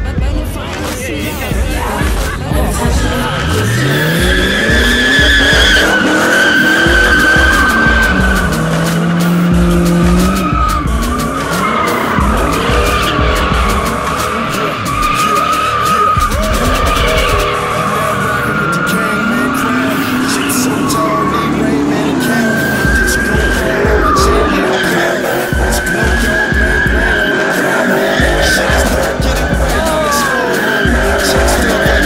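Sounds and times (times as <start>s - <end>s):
engines revving hard: 0.1s - 32.0s
car tyres squealing: 1.3s - 32.0s.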